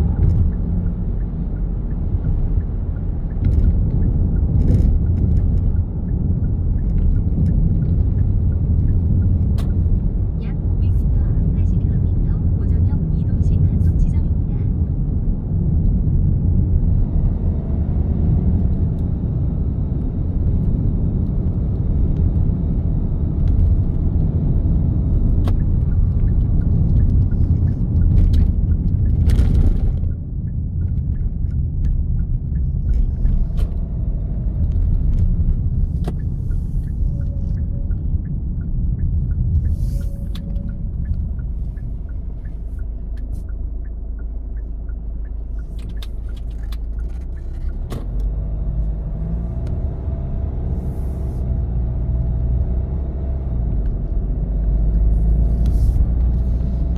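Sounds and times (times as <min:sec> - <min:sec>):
vehicle driving on road: 0:00.0 - 0:56.9.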